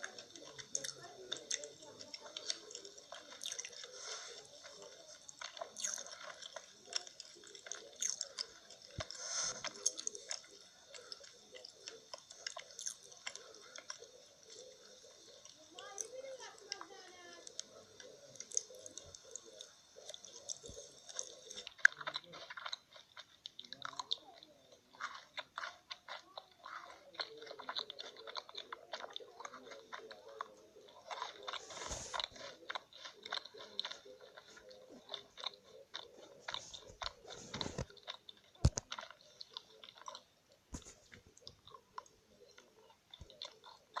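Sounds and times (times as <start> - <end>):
close-miked chewing and crunching: 0.0 - 44.0.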